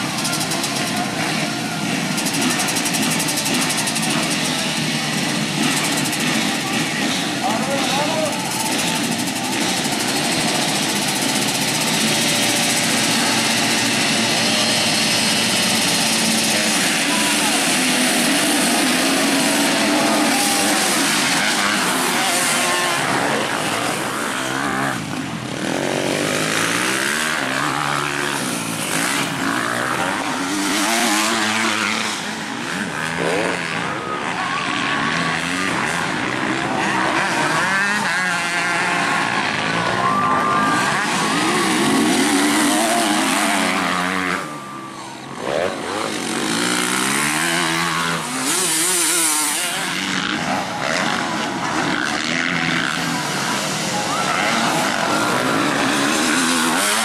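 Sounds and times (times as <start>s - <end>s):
dirt bikes revving and accelerating: 0.0s - 57.0s
motorbike passing: 0.0s - 57.0s.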